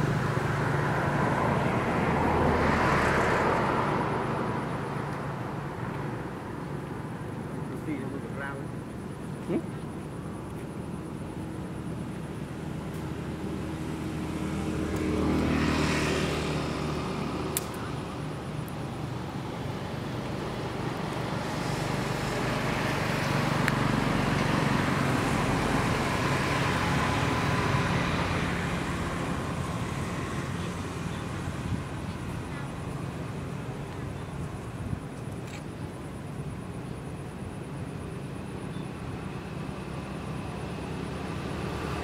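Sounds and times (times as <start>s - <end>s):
passing vehicle engine: 0.0s - 8.8s, 11.2s - 35.1s, 35.8s - 42.0s.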